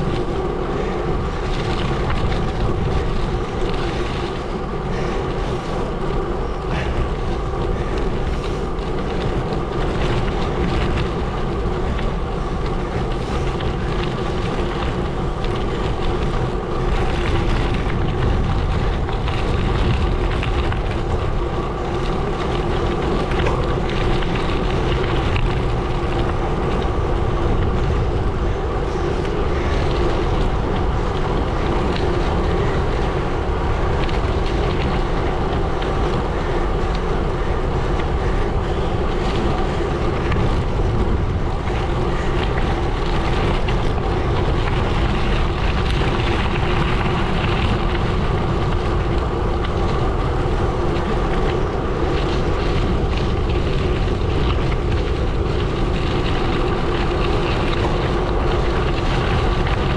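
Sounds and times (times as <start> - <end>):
bike tyres crunching on gravel: 0.0 - 59.9
wind on microphone: 0.0 - 59.9.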